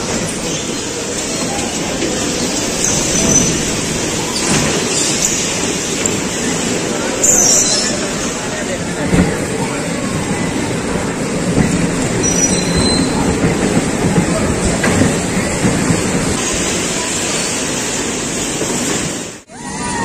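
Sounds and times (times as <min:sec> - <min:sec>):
bumper cars knocking: 0:00.0 - 0:19.3
bumper cars rumbling clatter: 0:00.0 - 0:20.0.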